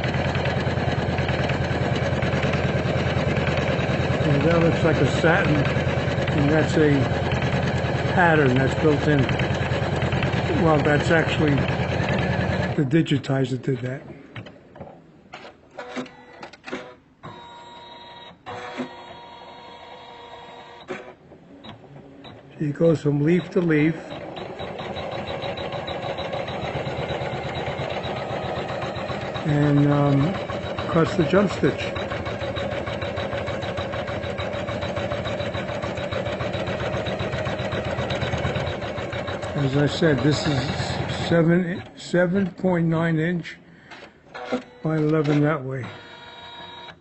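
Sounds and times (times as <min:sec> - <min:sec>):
embroidery machine stitching: 0:00.0 - 0:12.9, 0:15.4 - 0:42.6.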